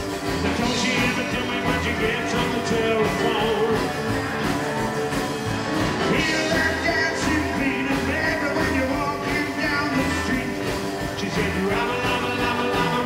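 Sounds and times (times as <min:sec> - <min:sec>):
rockabilly band playing: 0:00.0 - 0:13.0.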